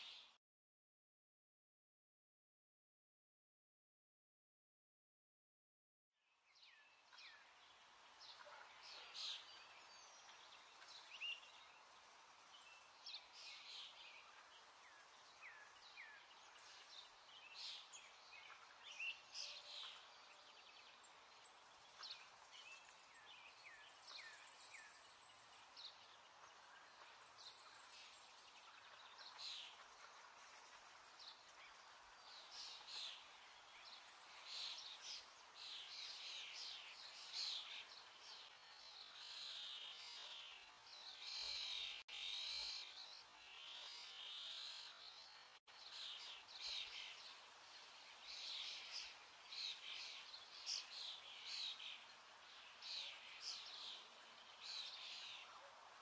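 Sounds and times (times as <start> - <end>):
low steady hiss: 0.0 - 0.4, 6.2 - 56.0
faint birds chirping: 6.2 - 56.0.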